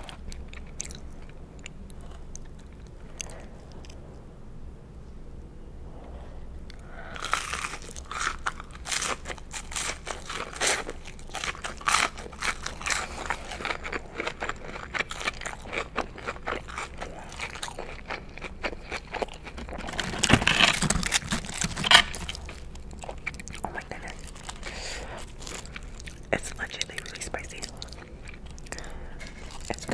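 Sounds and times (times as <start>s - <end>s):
crunchy chewing: 0.0s - 4.2s, 6.0s - 29.9s.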